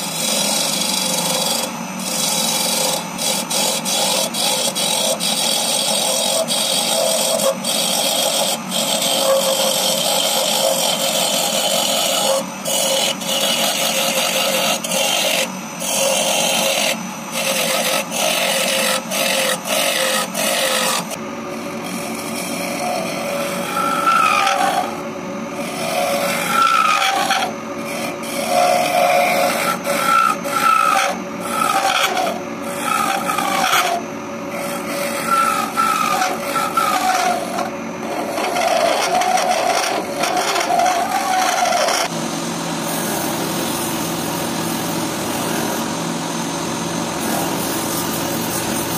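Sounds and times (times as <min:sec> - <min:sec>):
tool scraping wood on lathe: 0:00.0 - 0:42.1, 0:47.2 - 0:48.9
lathe steady tone: 0:00.0 - 0:48.9.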